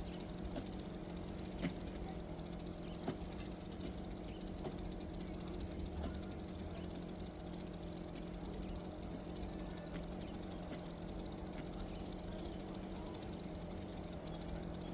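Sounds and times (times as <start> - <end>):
chainsaw engine running: 0.0 - 14.9.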